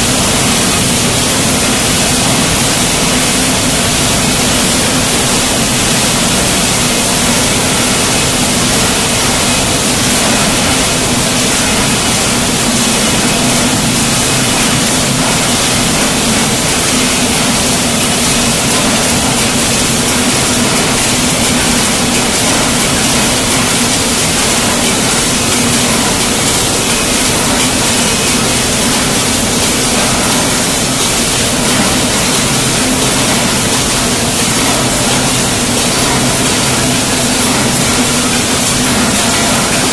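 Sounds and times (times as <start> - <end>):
dense fine clatter of conveyors: 0.0 - 39.9
machine low hum: 0.0 - 39.9.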